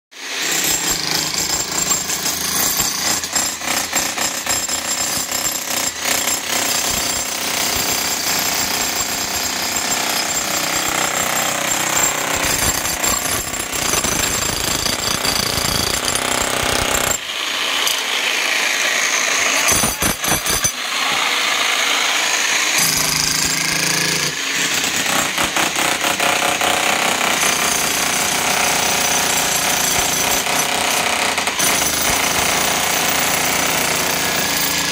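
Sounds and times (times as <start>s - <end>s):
demolition hammer chiselling concrete: 0.2s - 34.9s.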